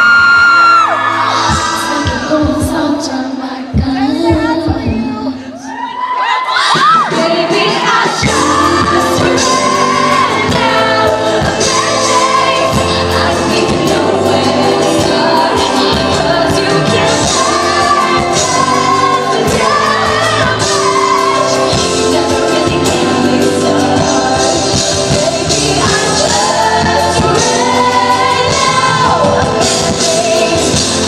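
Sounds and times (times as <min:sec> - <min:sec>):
backing band bass and drums: 0:00.0 - 0:03.1, 0:06.7 - 0:31.0
woman singing pop ballad: 0:01.4 - 0:05.8, 0:06.5 - 0:31.0.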